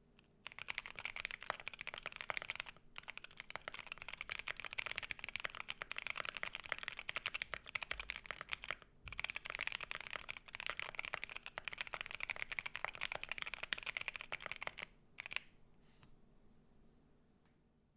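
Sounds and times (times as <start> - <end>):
mechanical keyboard typing: 0.4 - 15.5.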